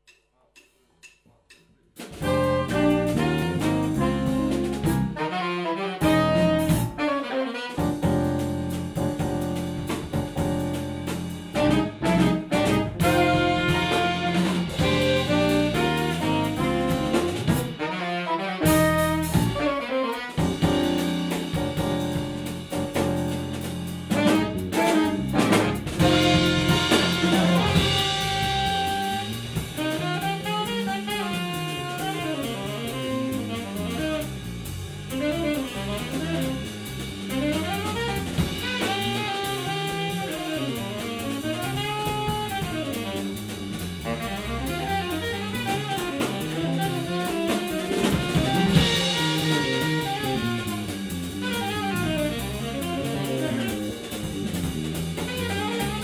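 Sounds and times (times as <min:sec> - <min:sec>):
jazz band playing: 0:02.0 - 0:56.0.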